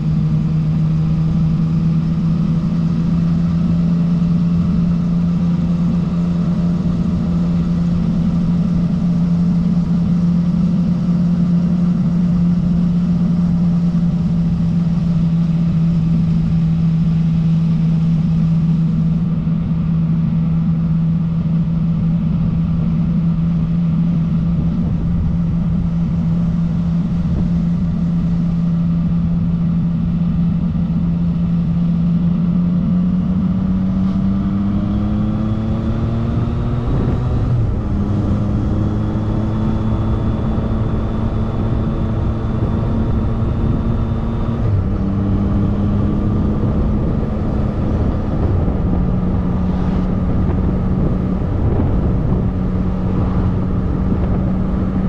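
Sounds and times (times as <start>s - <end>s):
motorcycle engine at steady revs: 0.0s - 55.0s
wind and road noise: 0.0s - 55.0s.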